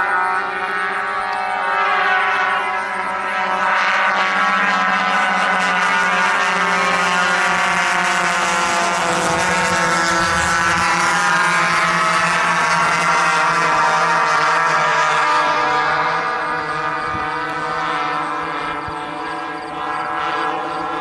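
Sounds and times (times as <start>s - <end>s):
model airplane engines droning: 0.0s - 21.0s.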